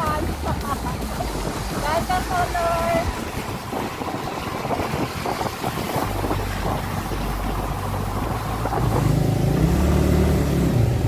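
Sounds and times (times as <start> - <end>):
motorcycle engine hum: 0.0 - 11.0
wind rushing over microphone: 0.0 - 11.0.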